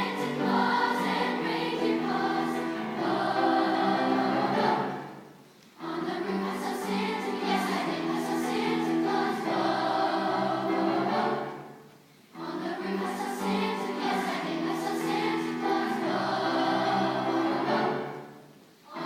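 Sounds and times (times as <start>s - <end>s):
choir singing in parts: 0.0s - 19.0s.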